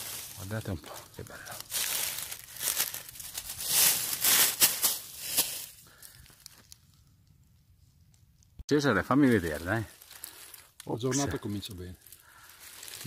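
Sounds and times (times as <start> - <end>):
dry leaves rustling and crackling: 0.0 - 7.1, 8.8 - 13.0.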